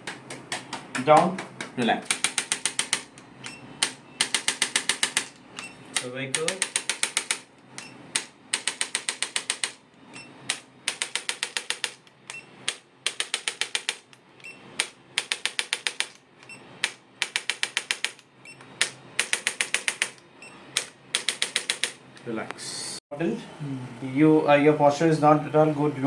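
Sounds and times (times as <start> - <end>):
rapid mechanical clicking bursts: 0.3 - 9.9, 10.5 - 22.1.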